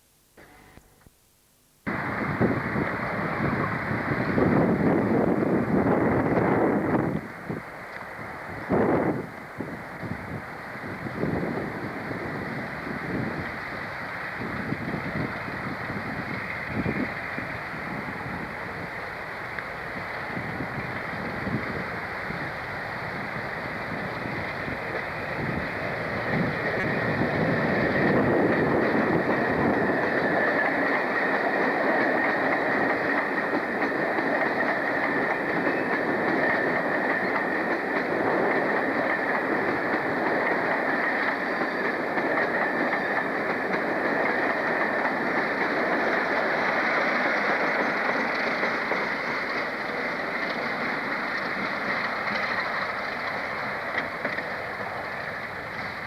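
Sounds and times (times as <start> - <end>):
train rumbling on rails: 1.9 - 56.0.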